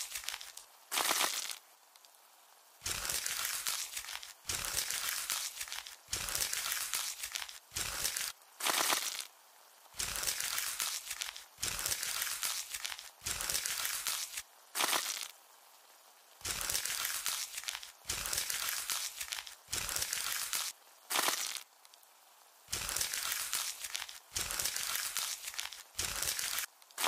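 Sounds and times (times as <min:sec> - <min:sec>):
crunchy crackling sounds: 0:00.0 - 0:27.0.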